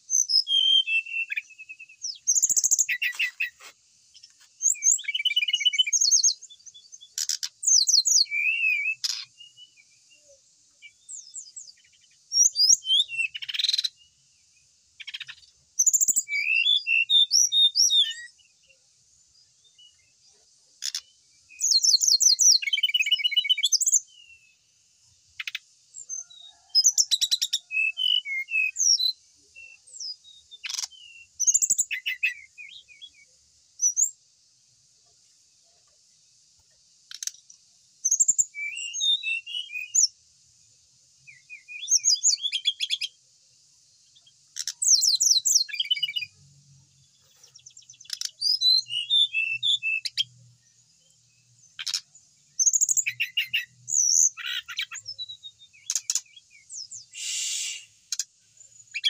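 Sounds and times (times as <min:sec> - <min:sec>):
faint high hiss: 0:00.0 - 0:59.0
songbird singing: 0:00.0 - 0:59.0.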